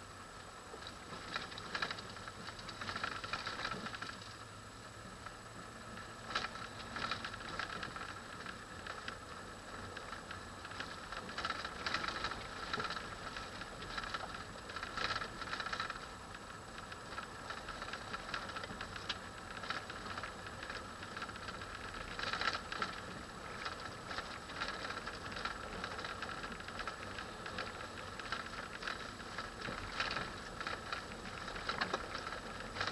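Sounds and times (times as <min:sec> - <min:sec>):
road noise inside vehicle: 0:00.0 - 0:32.9.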